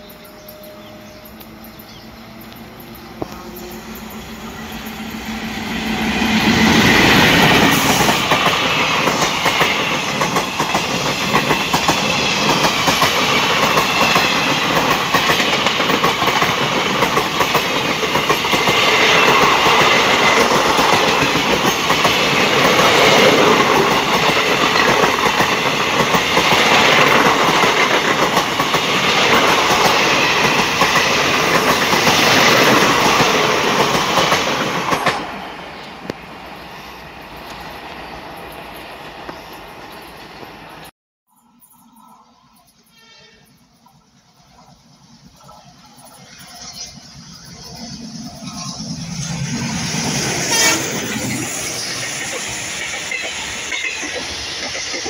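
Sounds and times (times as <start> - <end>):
train wheels rushing on rail: 0.0 - 40.9, 43.5 - 55.0.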